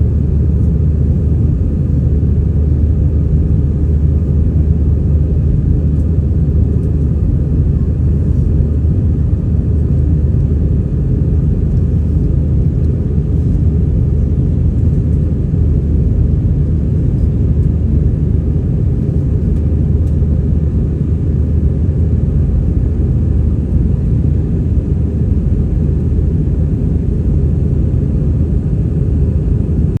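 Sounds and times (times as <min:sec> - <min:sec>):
airliner engines rumbling: 0:00.0 - 0:30.0.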